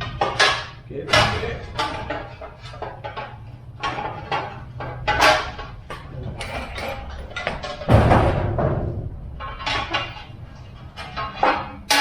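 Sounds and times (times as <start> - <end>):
irregular knocks and clatters: 0.0 - 12.0
low steady hum: 0.0 - 12.0.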